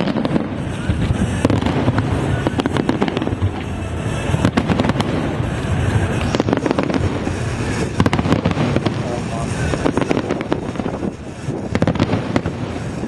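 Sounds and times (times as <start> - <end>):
fireworks bangs and crackling: 0.0 - 13.0
steady low rumble: 0.0 - 13.0.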